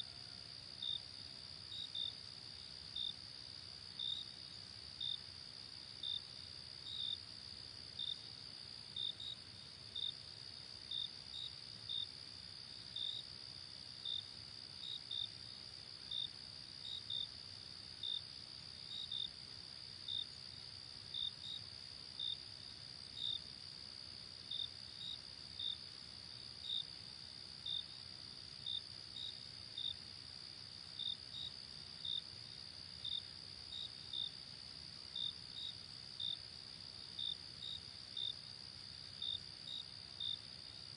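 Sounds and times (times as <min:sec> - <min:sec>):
cricket chirps: 0:00.0 - 0:40.9.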